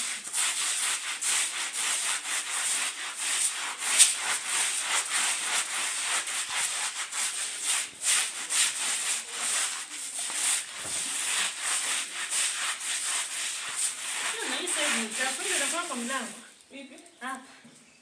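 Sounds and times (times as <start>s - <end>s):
stiff brush scrubbing carpet: 0.0s - 16.4s.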